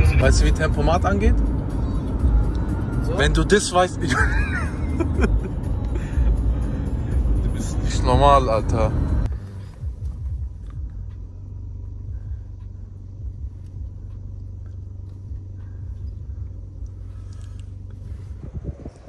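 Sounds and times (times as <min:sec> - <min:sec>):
car interior rumble while driving: 0:00.0 - 0:19.0.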